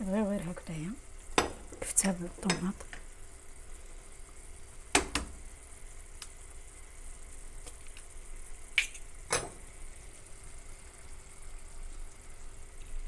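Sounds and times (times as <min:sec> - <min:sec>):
food simmering with faint sizzle: 0:00.0 - 0:13.0.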